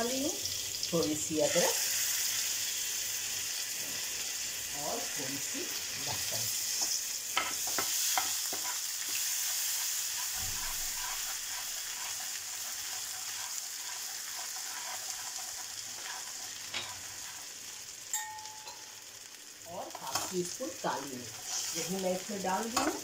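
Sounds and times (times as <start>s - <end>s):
butter sizzling in a frying pan: 0.0s - 23.0s.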